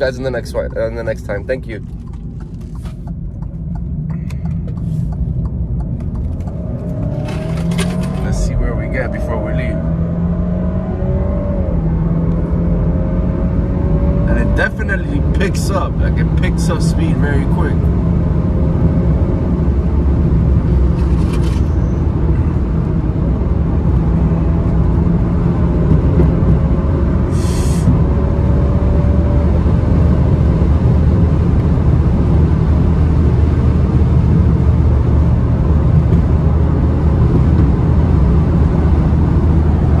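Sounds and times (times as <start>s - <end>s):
car engine droning at full throttle: 0.0s - 40.0s
road and wind noise: 0.0s - 40.0s.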